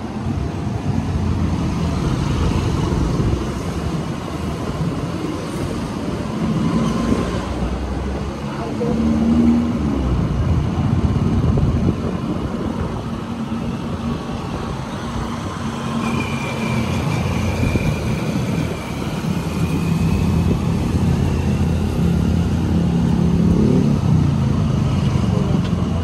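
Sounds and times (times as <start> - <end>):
passing cars and motorcycles: 0.0 - 26.0
rush of riding: 0.0 - 26.0.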